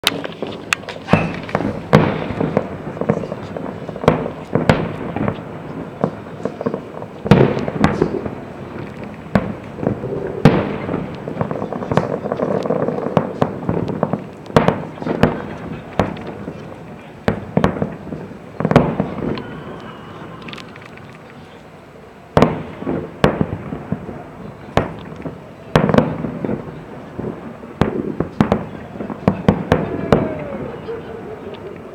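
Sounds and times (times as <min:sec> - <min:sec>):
fireworks bursting: 0:00.0 - 0:31.9.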